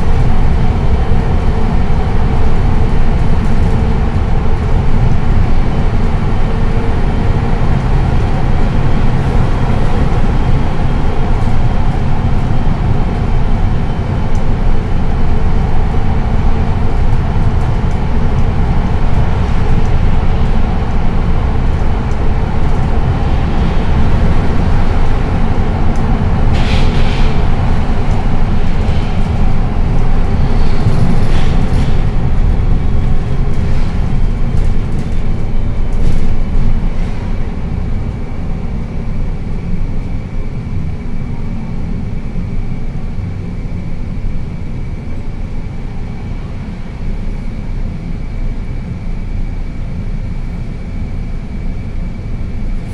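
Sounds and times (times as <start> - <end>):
bus engine and tyres droning: 0.0 - 52.9.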